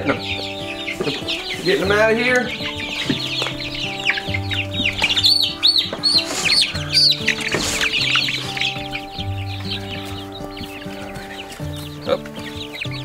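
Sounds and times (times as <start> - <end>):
background music with held notes: 0.0 - 13.0
chicks peeping: 0.0 - 13.0.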